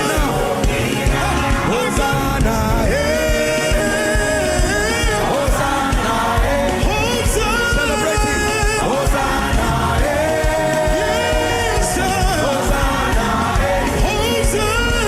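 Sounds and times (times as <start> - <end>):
band with steady drum beat: 0.0 - 15.0
choir singing gospel: 0.0 - 15.0.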